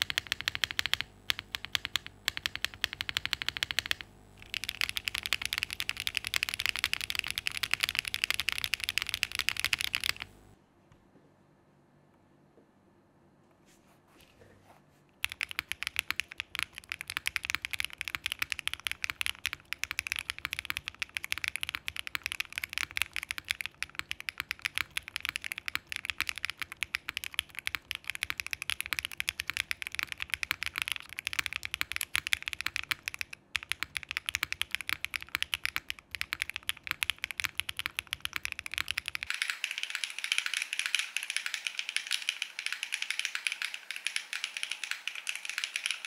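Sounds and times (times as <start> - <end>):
typing on mechanical keyboard: 0.0 - 10.6, 15.2 - 46.0.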